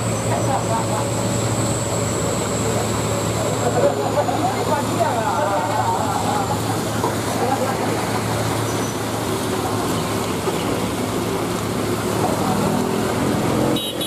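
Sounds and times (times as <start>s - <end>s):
car and motorcycle engines: 0.0s - 14.0s
tyres hissing on wet asphalt: 0.0s - 14.0s.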